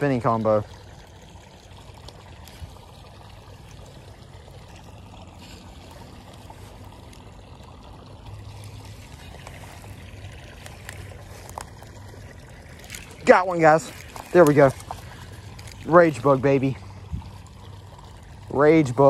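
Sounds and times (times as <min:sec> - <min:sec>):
water pouring into pond: 0:00.0 - 0:19.0.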